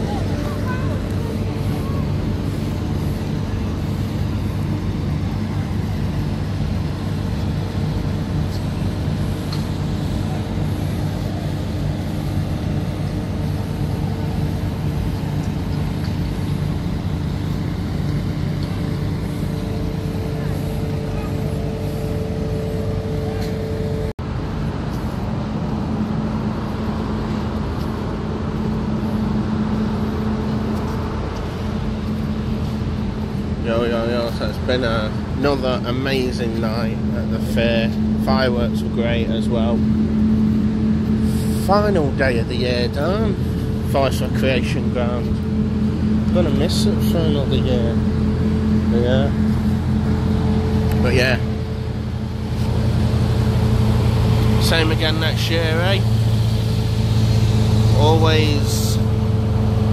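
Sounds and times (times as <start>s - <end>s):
engines droning: 0.0s - 59.9s
mechanical rumble with low hum: 0.0s - 59.9s.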